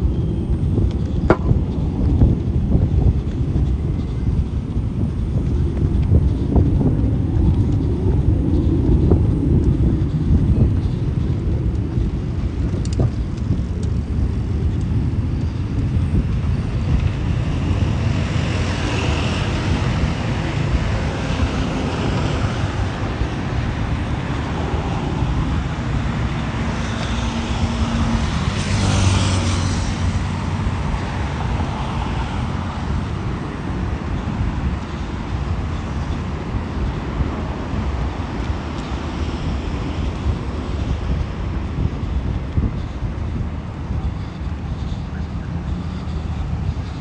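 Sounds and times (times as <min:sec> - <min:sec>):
cars passing: 0:00.0 - 0:47.0.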